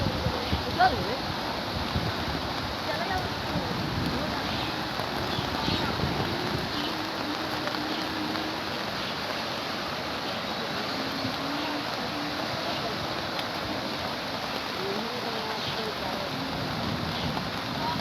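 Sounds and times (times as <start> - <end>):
faint voices: 0.0 - 18.0
river rushing: 0.0 - 18.0.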